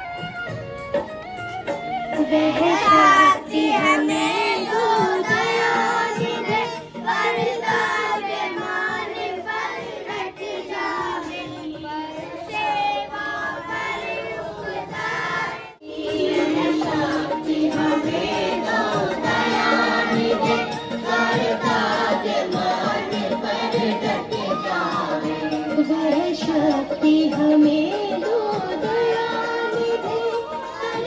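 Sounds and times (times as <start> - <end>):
prayer music from a speaker: 0.0 - 31.0
children singing in unison: 2.2 - 31.0.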